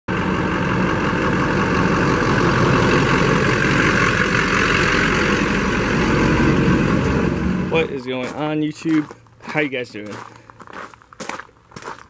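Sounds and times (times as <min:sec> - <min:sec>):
diesel truck engine running: 0:00.1 - 0:10.8.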